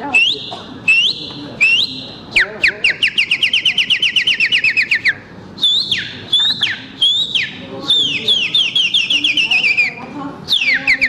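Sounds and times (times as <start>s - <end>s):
man whistling birdsong through fingers: 0.2s - 9.8s.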